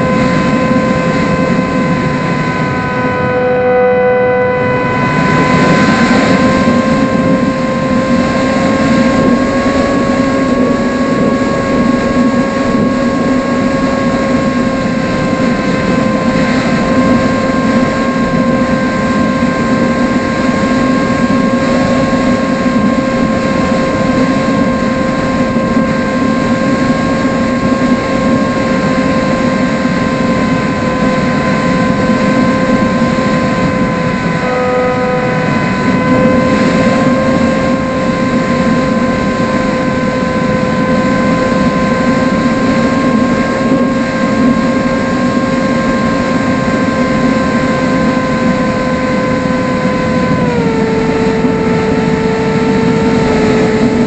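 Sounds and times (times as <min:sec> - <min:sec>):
airflow rushing over microphone: 0:00.0 - 0:54.0
electric motor and propeller whine: 0:00.0 - 0:54.0.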